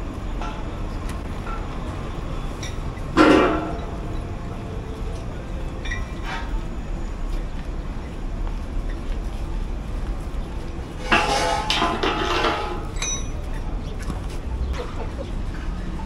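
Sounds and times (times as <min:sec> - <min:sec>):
low rumble of traffic: 0:00.0 - 0:16.0.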